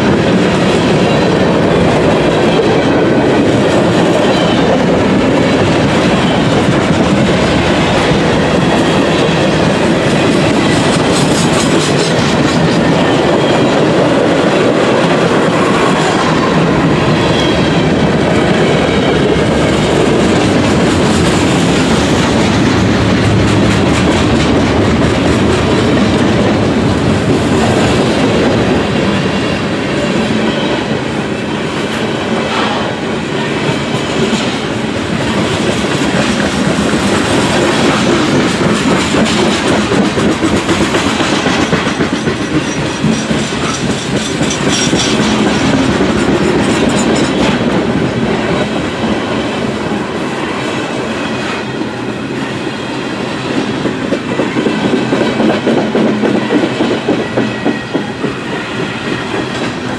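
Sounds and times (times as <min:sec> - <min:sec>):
train wheels clacking over rail joints: 0:00.0 - 0:59.9.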